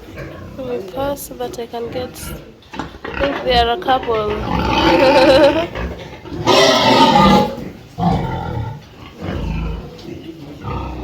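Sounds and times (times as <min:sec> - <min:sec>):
pig grunts: 0:02.0 - 0:11.0
pigs squealing: 0:02.0 - 0:11.0.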